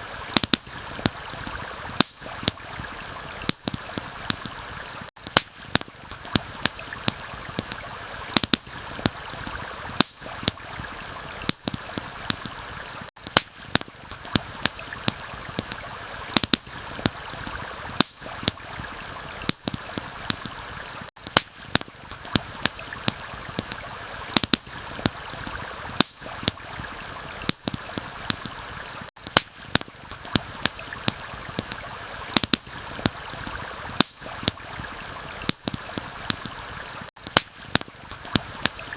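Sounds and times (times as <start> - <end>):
campfire crackling and popping: 0.0 - 38.9
flowing water: 0.0 - 38.9.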